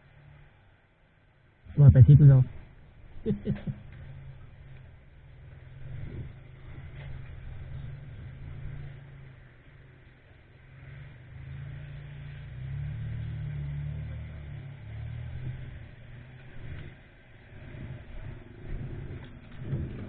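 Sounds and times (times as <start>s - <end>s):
motorcycle engine and wind rumble: 1.1s - 20.0s.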